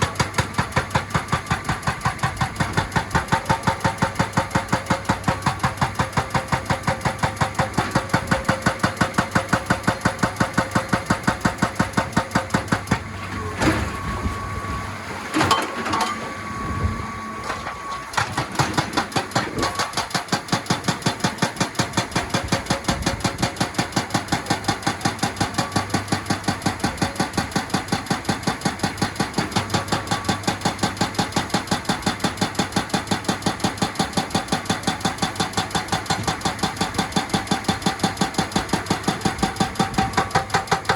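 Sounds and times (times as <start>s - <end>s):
hydraulic breaker hammering rock: 0.0s - 14.1s, 17.4s - 40.9s
machine engine running: 0.0s - 40.9s.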